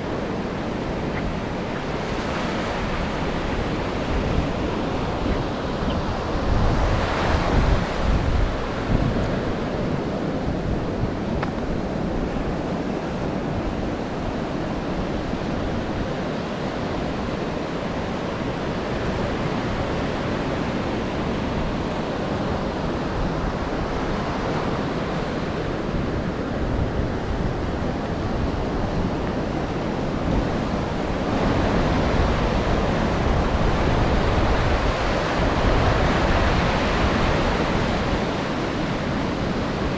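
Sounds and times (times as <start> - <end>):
ocean surf washing onto beach: 0.0 - 39.9
wind buffeting microphone: 0.0 - 39.9.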